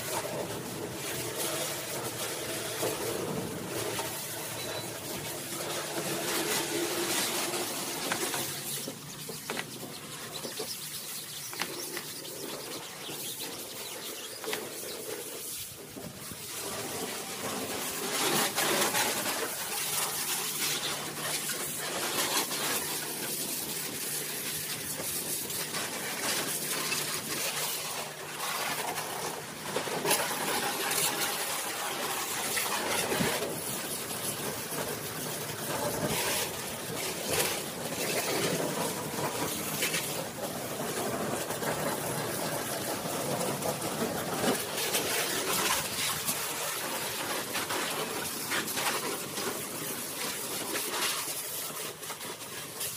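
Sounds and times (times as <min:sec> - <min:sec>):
pressure washer spraying water: 0:00.0 - 0:52.9.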